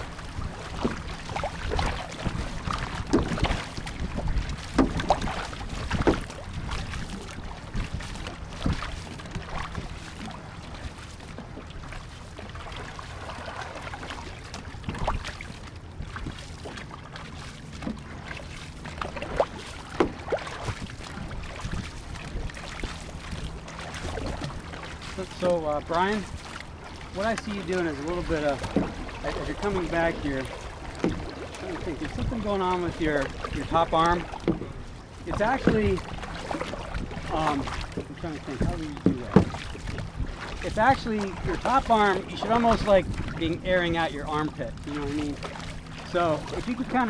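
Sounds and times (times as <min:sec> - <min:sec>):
paddle splashing in water: 0:00.0 - 0:47.0.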